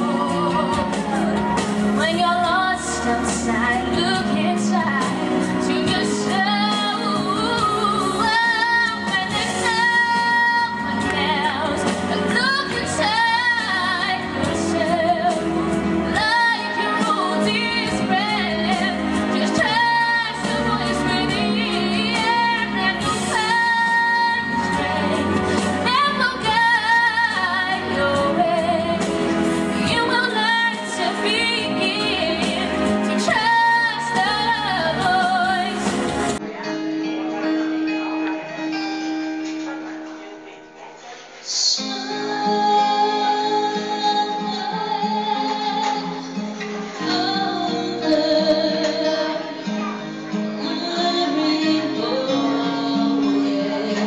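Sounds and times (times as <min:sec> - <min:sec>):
woman singing into a microphone: 0:00.0 - 0:36.4, 0:41.4 - 0:54.0
instrumental backing music: 0:00.0 - 0:54.0.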